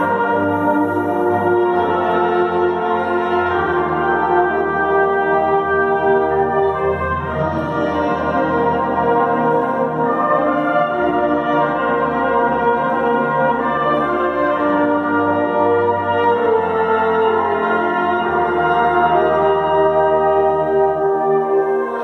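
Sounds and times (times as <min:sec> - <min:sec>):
brass band playing chords: 0:00.0 - 0:22.0.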